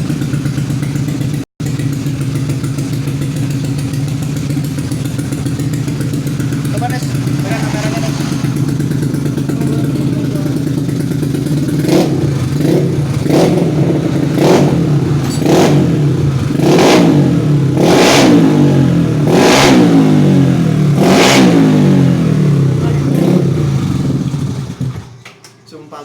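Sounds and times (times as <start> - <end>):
scooter engine revving: 0.0 - 25.2.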